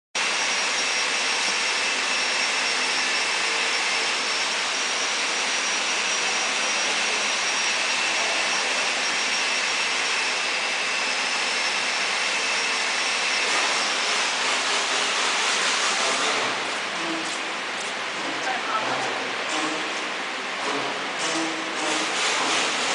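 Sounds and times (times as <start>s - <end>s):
factory machinery hissing and whining: 0.2s - 22.9s.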